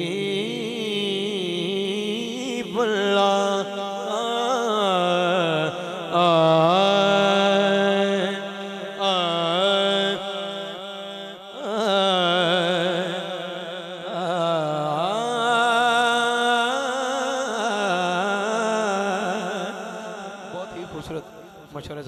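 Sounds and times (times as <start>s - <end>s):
man singing into a microphone: 0.0s - 21.8s.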